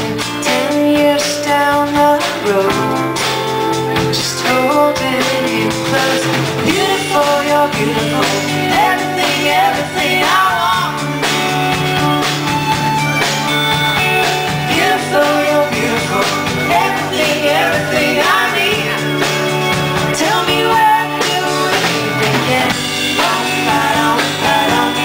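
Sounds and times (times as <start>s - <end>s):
woman singing: 0.0s - 11.4s, 14.5s - 19.4s, 20.0s - 25.0s
bass: 0.0s - 25.0s
drums: 0.0s - 25.0s
strummed acoustic guitar: 0.0s - 25.0s.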